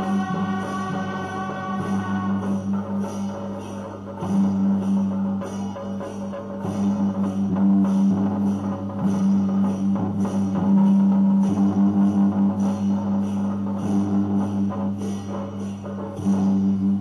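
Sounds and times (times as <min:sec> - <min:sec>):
drums and percussion: 0:00.0 - 0:17.0.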